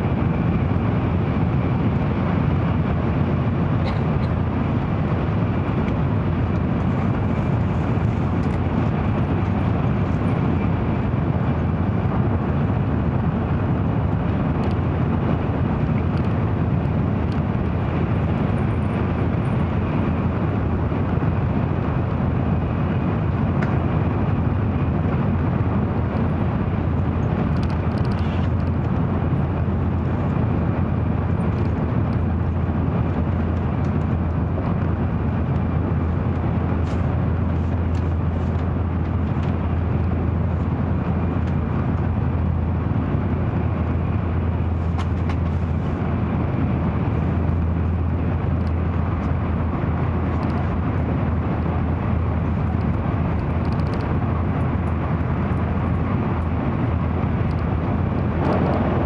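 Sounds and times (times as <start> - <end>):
train cabin low rumble: 0.0 - 59.0.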